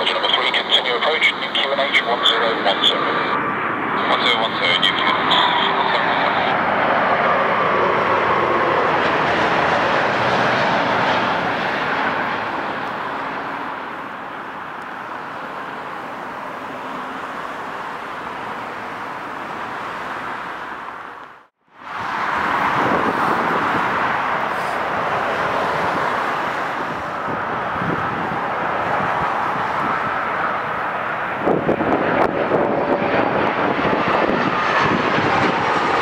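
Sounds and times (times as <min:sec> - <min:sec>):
jet engines on approach: 0:00.0 - 0:36.0.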